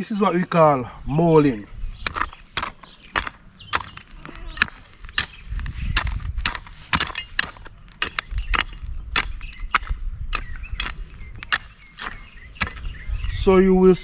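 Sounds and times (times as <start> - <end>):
hoe scraping stony soil: 0.5 - 13.8.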